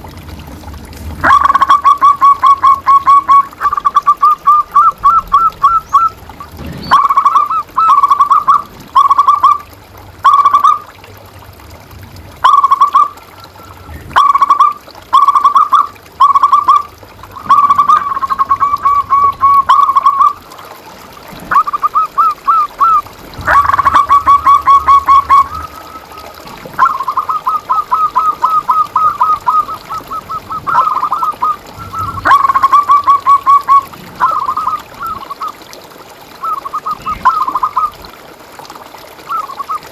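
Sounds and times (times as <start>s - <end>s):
doves cooing: 0.0s - 11.0s, 12.2s - 35.8s, 36.4s - 38.2s, 38.9s - 39.9s.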